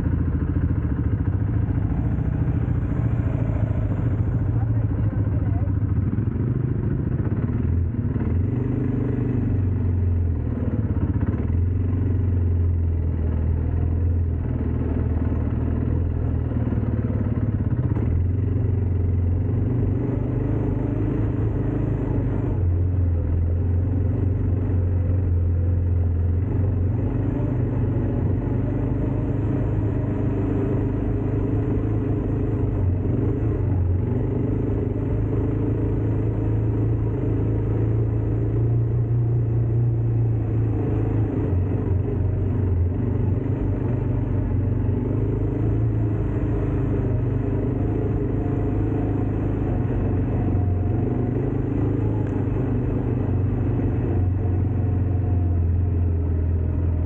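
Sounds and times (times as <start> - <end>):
atv engine droning: 0.0 - 57.0.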